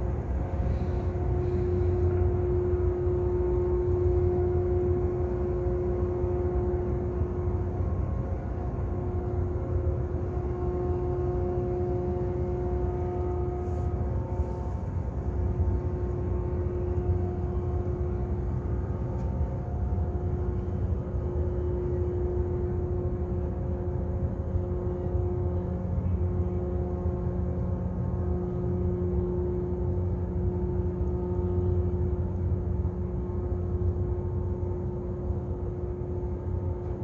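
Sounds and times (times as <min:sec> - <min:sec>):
humming tone: 0:00.0 - 0:37.0
ship engines low rumble: 0:00.0 - 0:37.0.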